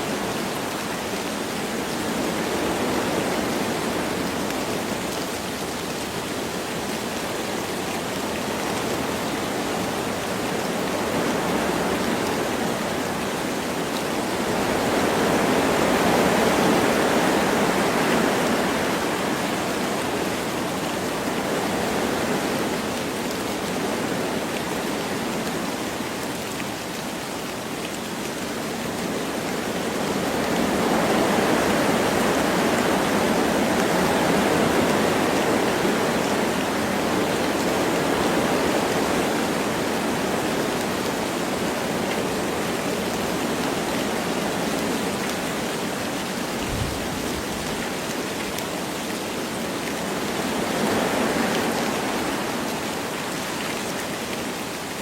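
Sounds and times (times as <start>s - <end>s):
light rain falling: 0.0s - 55.0s
wind rushing through trees: 0.0s - 55.0s.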